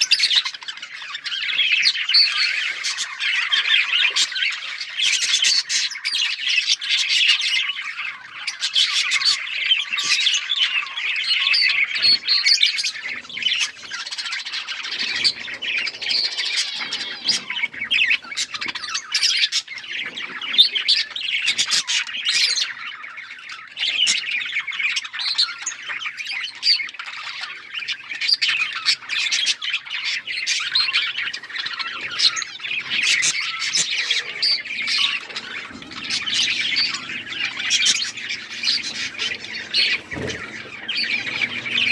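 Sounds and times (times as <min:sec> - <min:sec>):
flock of budgerigars chattering: 0:00.0 - 0:41.9.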